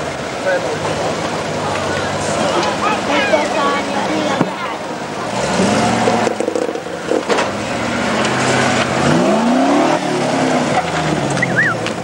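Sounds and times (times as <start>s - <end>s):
off-road car engine revving: 0.0s - 12.0s.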